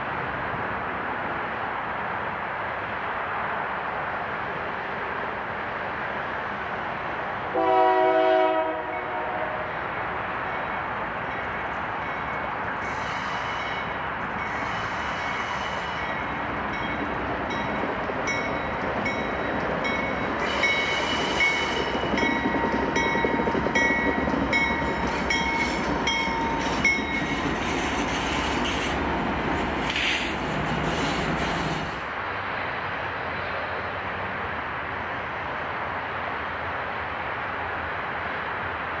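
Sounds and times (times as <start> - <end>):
diesel locomotives passing: 0.0 - 39.0
train wheels on rails: 0.0 - 39.0.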